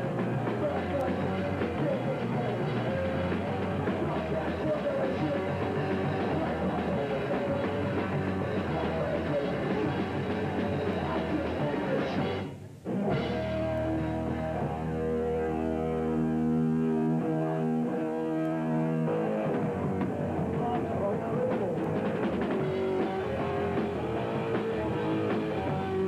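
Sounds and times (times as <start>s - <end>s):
punk band playing live: 0.0s - 26.0s.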